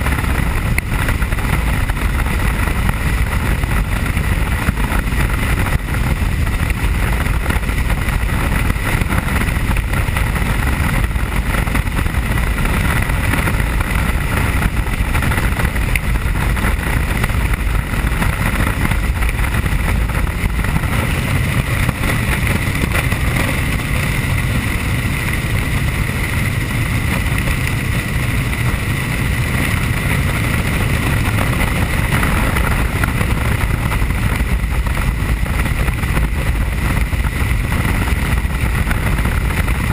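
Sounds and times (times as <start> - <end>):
constant high whine: 0.0 - 39.9
helicopter rotor and engine drone: 0.0 - 39.9.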